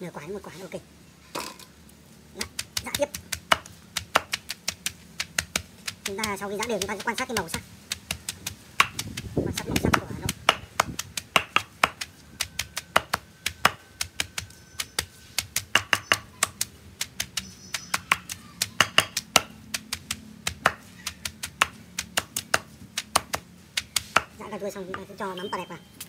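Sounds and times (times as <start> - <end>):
pestle pounding in mortar: 2.4 - 25.2.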